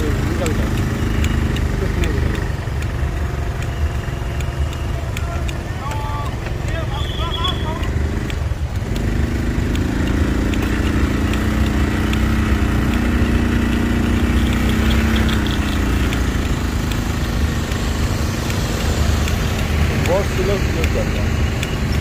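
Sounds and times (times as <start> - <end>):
low road rumble: 0.0 - 22.0
truck engine running: 0.0 - 22.0.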